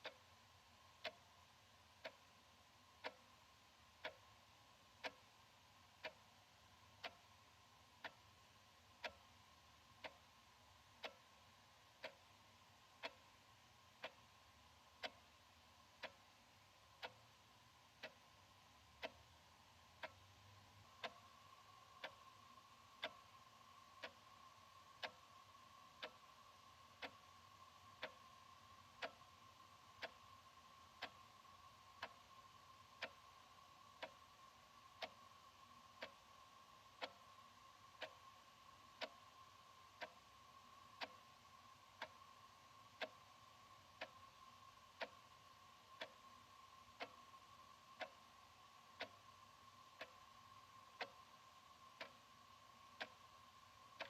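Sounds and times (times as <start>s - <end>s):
faint steady hum: 0.0s - 54.0s
wall clock ticking: 0.0s - 54.0s.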